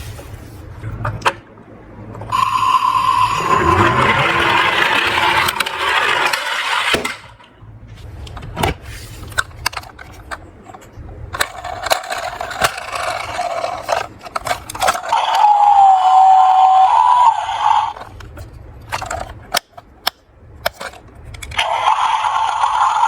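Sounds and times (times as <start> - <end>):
toy car wheels scraping and rattling: 2.3 - 7.6, 8.8 - 19.7, 20.6 - 23.0.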